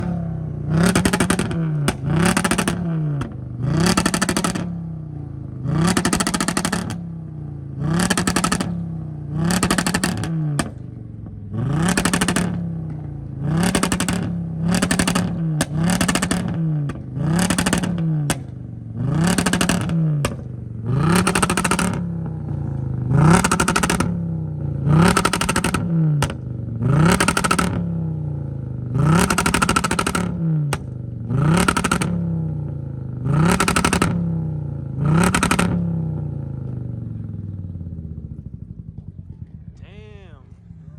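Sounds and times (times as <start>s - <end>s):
exhaust crackling and popping: 0.0s - 4.9s, 5.7s - 7.1s, 7.8s - 40.8s
car engine revving: 0.0s - 28.2s, 28.8s - 40.9s.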